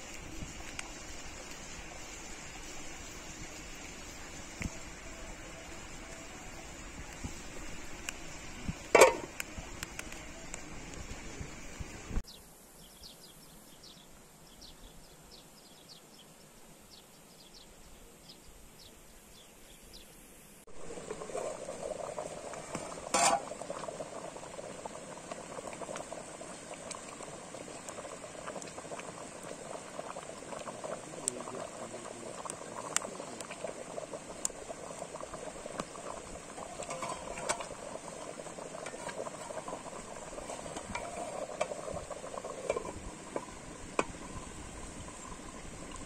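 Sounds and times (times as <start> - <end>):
stew bubbling in pot: 0.0 - 12.2, 20.7 - 46.0.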